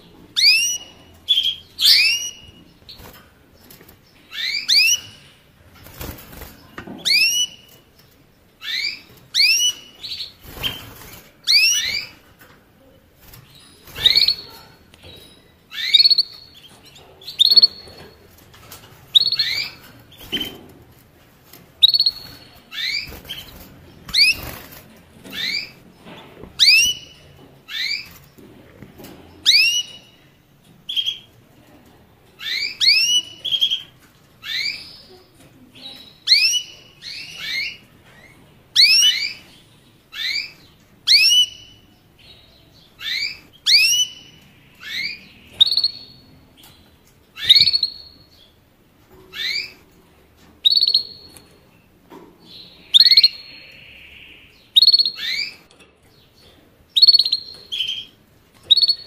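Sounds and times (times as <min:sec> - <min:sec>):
finch chirping: 0:00.3 - 0:12.3, 0:13.3 - 0:20.7, 0:21.4 - 0:28.5, 0:29.4 - 0:30.2, 0:30.9 - 0:31.3, 0:32.4 - 0:48.6, 0:49.3 - 0:49.9, 0:50.6 - 0:51.6, 0:52.4 - 0:59.0.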